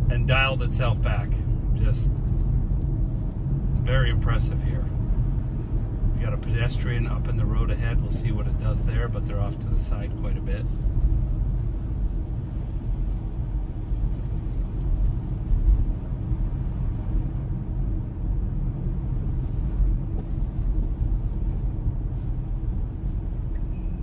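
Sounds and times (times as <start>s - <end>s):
tyres rumbling on snowy road: 0.0s - 24.0s.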